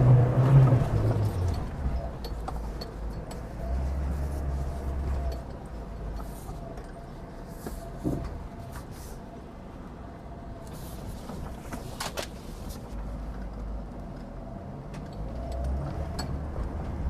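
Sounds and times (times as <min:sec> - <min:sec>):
engine and drivetrain rumble: 0:00.0 - 0:17.0.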